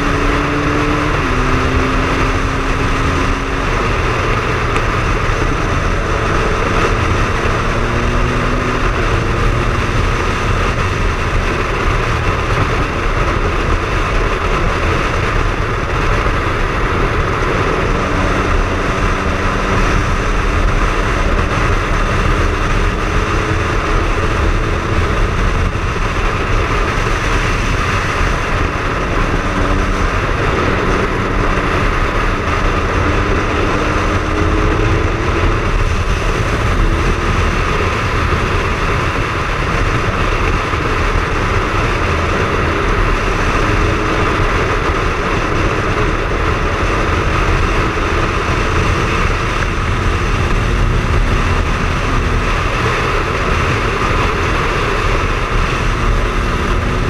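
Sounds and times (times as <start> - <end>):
motorcycle engine running: 0.0 - 57.0
wind rushing on microphone: 0.0 - 57.0.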